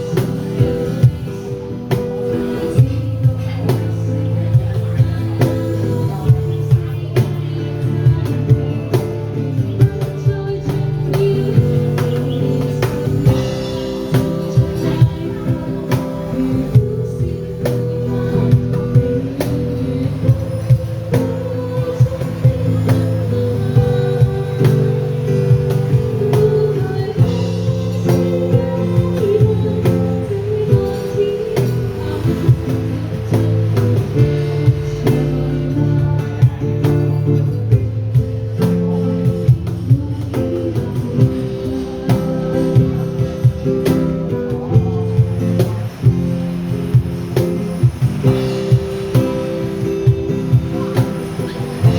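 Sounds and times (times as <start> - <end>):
drum kit beat: 0.0 - 51.9
strummed guitar chords: 0.0 - 51.9.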